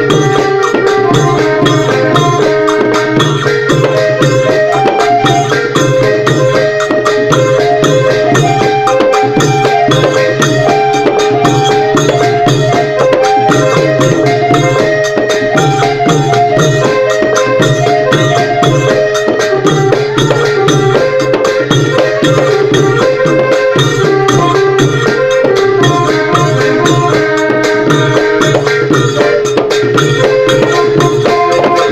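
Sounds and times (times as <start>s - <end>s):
long drums beating: 0.0s - 31.9s.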